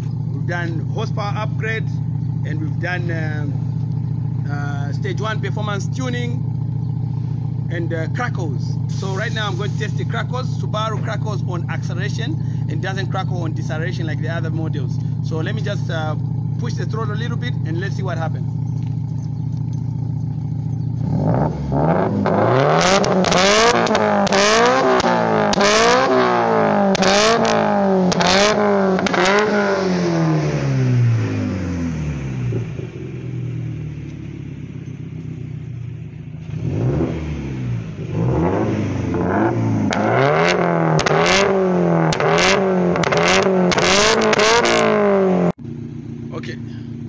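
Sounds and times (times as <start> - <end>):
exhaust crackles and pops: 0.0 - 46.9
car engine revving: 0.0 - 47.0.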